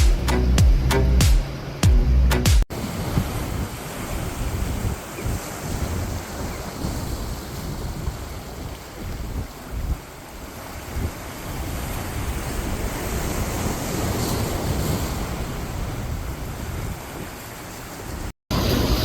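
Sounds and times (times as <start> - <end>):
waves washing: 2.7 - 19.0
wind buffeting microphone: 2.7 - 19.0.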